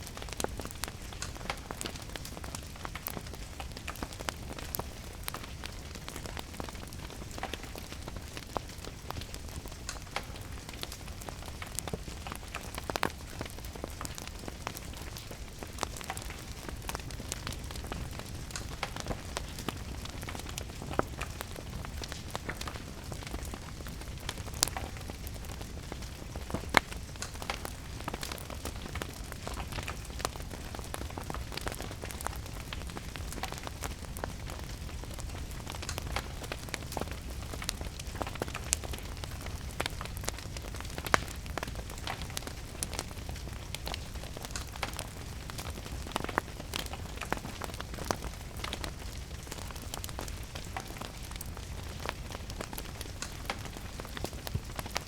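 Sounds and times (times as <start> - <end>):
steady rain: 0.0 - 55.0
wood fire crackling and popping: 0.0 - 55.0.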